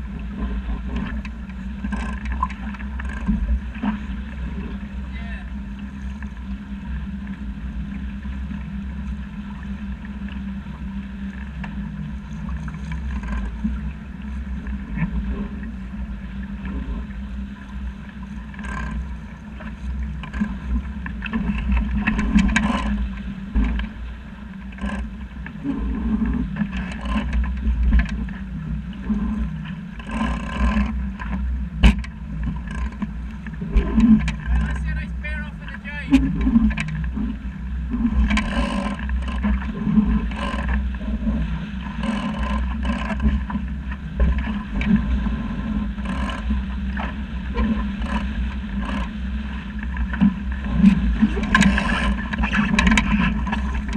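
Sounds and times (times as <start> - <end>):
water rushing against boat hull: 0.0 - 53.9
waves slapping hull: 0.0 - 53.9
wind rumbling on microphone: 0.0 - 53.9.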